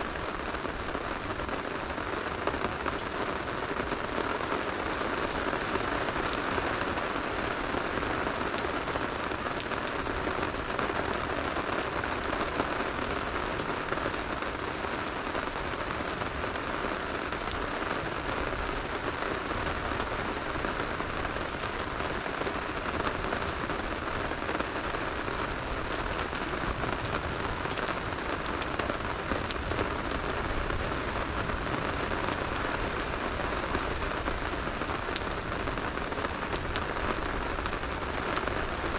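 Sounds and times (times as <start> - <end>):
campfire crackling: 0.0 - 38.9
steady rain hiss: 0.0 - 38.9.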